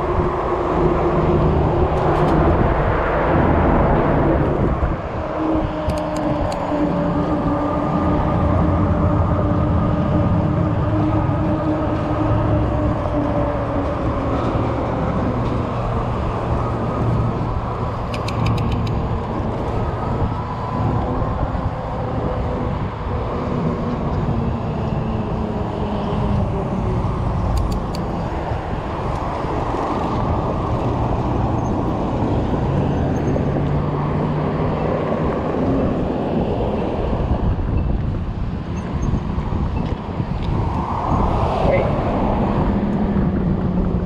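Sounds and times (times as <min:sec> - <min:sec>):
e-bike rumble on sidewalk: 0:00.0 - 0:44.0
road traffic passing: 0:00.0 - 0:44.0.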